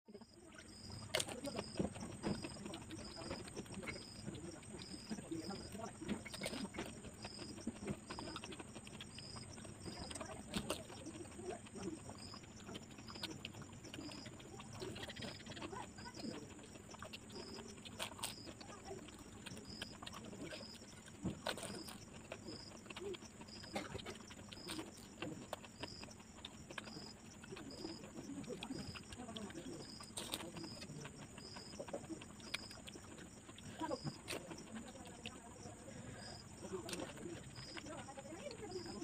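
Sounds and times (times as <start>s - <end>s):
wet chewing: 0.1s - 39.0s
mouth smacks and clicks: 0.5s - 39.0s.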